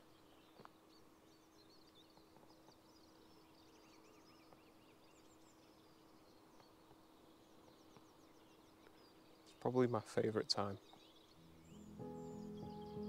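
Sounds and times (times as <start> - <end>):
small birds chirping and singing: 0.0 - 13.0.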